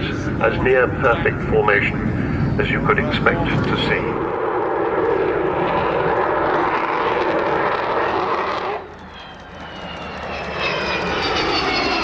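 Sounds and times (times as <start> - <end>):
high engine whine: 0.0 - 12.0
jet engines roaring past: 0.0 - 12.0.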